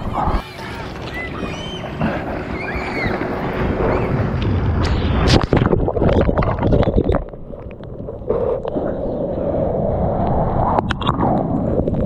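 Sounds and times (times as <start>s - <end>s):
sea water splashing and sloshing: 0.0s - 10.0s.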